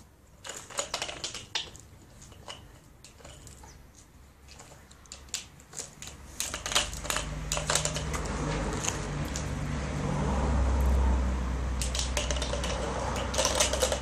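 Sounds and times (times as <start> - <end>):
plastic ball clicking and rattling: 0.3 - 9.6, 11.8 - 14.0.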